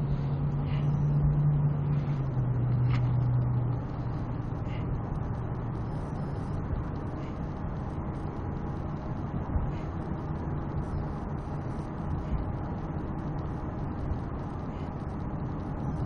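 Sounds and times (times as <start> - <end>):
car road noise rumble: 0.0 - 16.0
low hum: 0.0 - 16.0.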